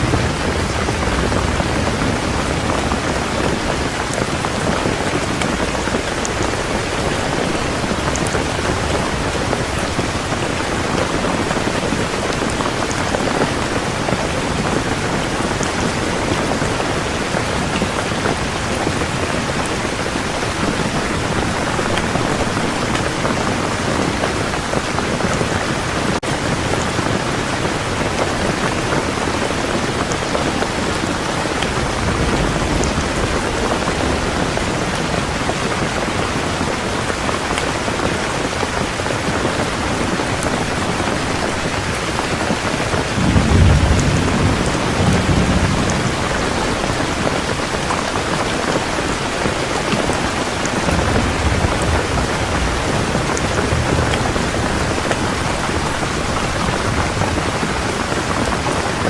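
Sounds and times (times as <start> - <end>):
distant thunder rumble: 0.0 - 24.6, 26.4 - 59.0
heavy rain falling: 0.0 - 59.0.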